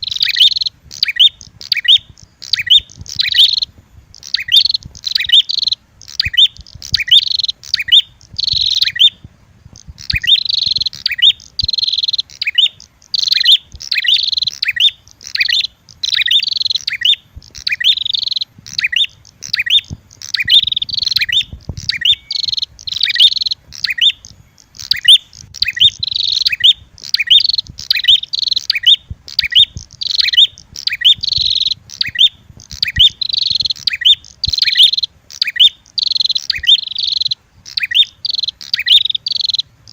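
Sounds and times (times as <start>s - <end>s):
bird chirping sharply: 0.0s - 39.9s.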